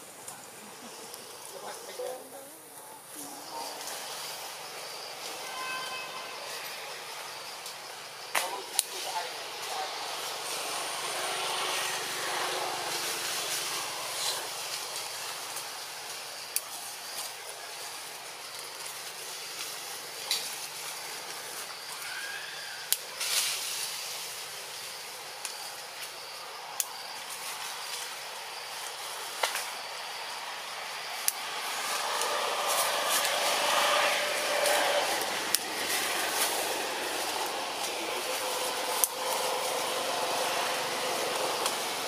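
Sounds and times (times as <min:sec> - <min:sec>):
forest ambience hiss: 0:00.0 - 0:42.0.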